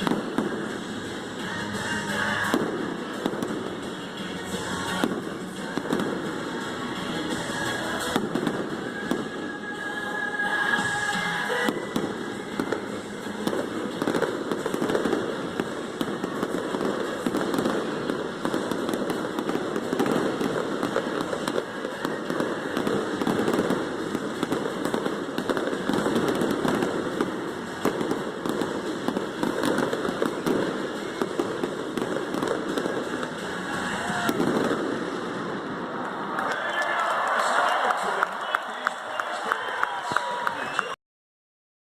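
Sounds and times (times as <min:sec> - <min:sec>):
fireworks bangs and crackling: 0:00.0 - 0:36.2.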